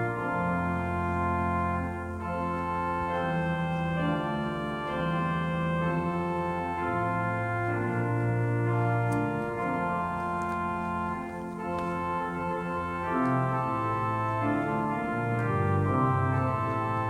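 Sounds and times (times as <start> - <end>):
church organ playing hymn chords: 0.0 - 17.0.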